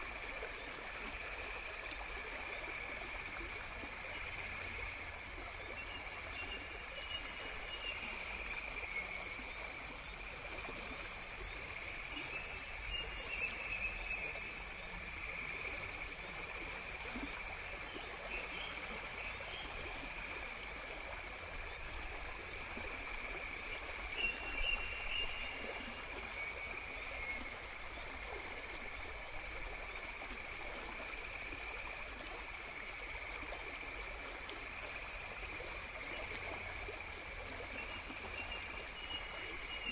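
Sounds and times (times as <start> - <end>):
stream water flowing: 0.0 - 39.9
insects chirping: 0.2 - 39.9.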